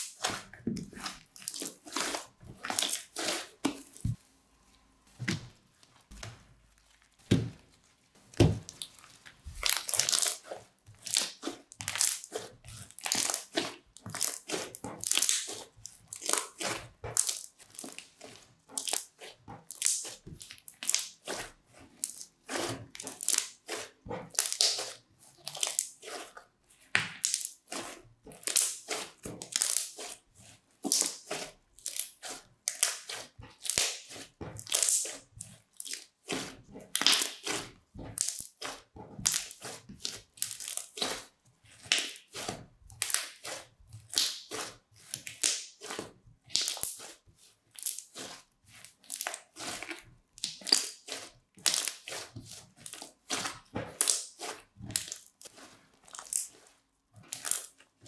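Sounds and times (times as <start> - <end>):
slime crackling and popping: 0.9 - 4.2, 6.8 - 30.2, 30.8 - 57.8.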